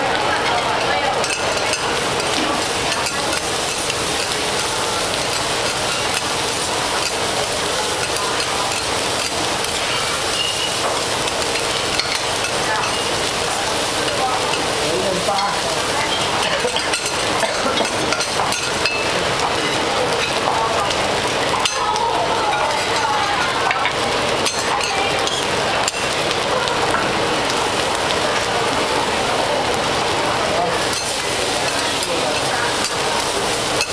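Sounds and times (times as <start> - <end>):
rice sizzling on a griddle: 0.0 - 33.9.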